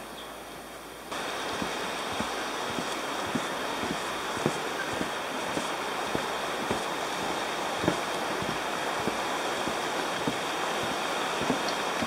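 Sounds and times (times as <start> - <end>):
river rushing: 0.8 - 12.0
footsteps on wooden deck: 1.1 - 12.0.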